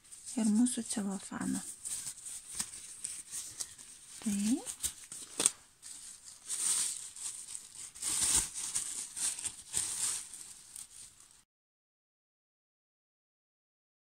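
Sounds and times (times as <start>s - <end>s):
cellophane crinkling: 0.0s - 11.4s.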